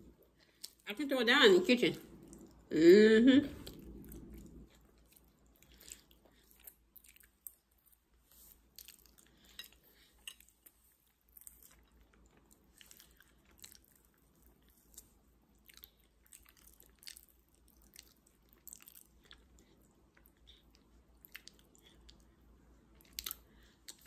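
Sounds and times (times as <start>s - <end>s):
person chewing: 3.5s - 24.0s.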